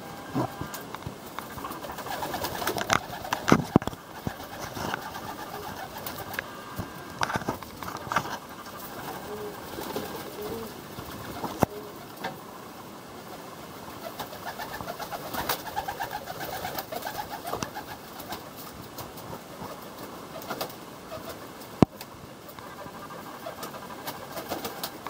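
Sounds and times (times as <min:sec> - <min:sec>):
pigeons cooing: 0:00.0 - 0:25.0
wings flapping: 0:00.2 - 0:12.4, 0:13.2 - 0:25.0.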